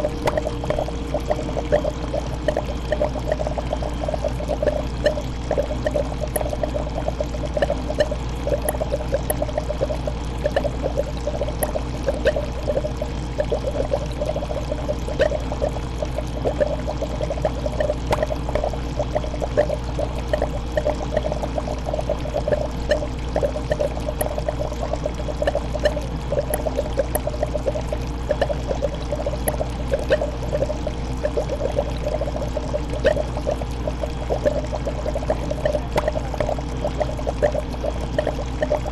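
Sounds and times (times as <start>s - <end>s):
aquarium water bubbling: 0.0s - 38.9s
steady low hum: 0.0s - 38.9s.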